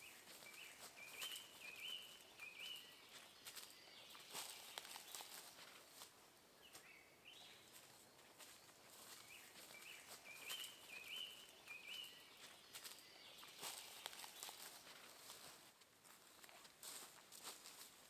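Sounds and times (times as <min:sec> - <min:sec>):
faint bird song: 0:00.0 - 0:18.0.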